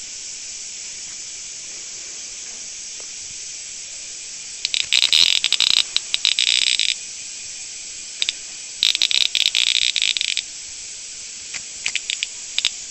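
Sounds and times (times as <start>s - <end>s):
cicada buzzing distress calls: 0.0s - 12.9s
steady high hiss: 0.0s - 12.9s.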